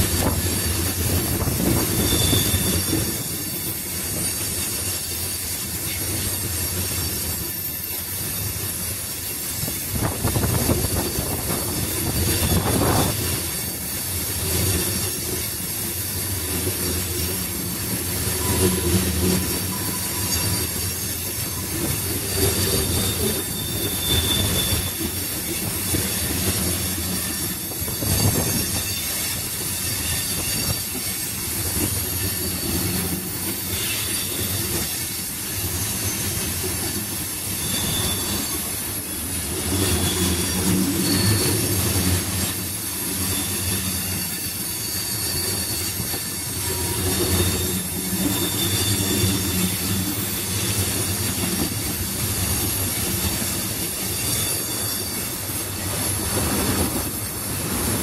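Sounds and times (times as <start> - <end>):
high wheel squeals: 0.0 - 58.0
steel wheels rumbling on rail: 0.0 - 58.0.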